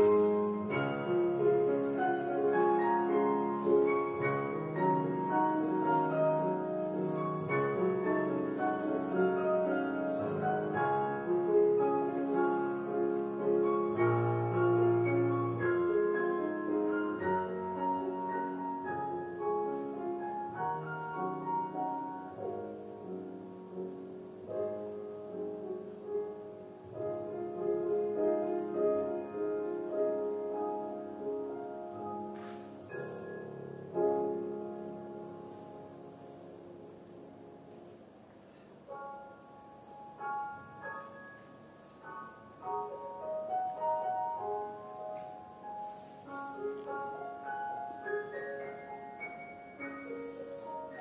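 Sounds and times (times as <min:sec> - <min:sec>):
solo piano: 0:00.0 - 0:51.0.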